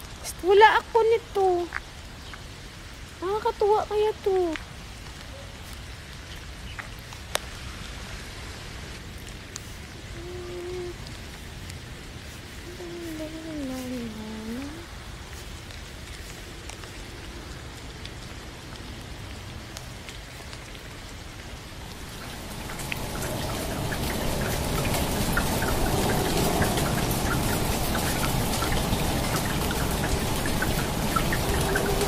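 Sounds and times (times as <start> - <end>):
rain falling onto pool water: 0.0 - 32.0
steady rain: 0.0 - 32.0.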